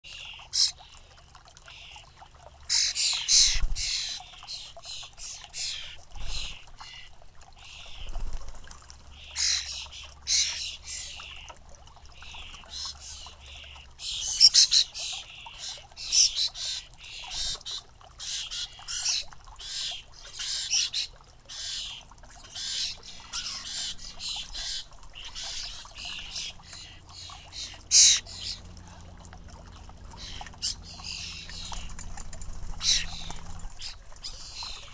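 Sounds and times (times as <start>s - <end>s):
fledglings rasping begging calls: 0.2s - 0.9s, 2.7s - 8.2s, 9.1s - 11.5s, 12.2s - 29.0s, 30.2s - 34.9s.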